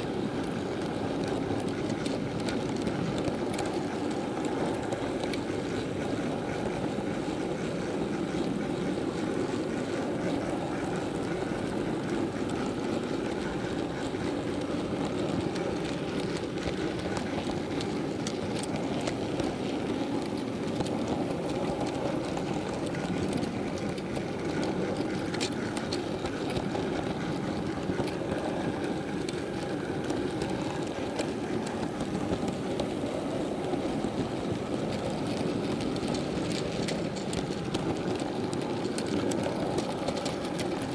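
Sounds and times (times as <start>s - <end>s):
model train rumbling on track: 0.0s - 40.9s
faint clicks: 8.1s - 40.9s.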